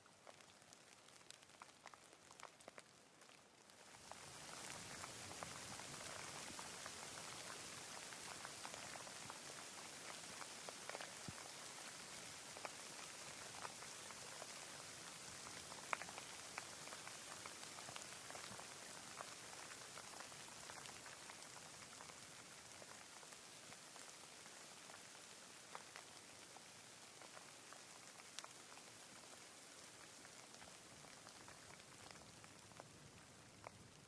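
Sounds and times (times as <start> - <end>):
light rain hiss: 0.0 - 34.0
raindrops ticking: 0.0 - 34.0.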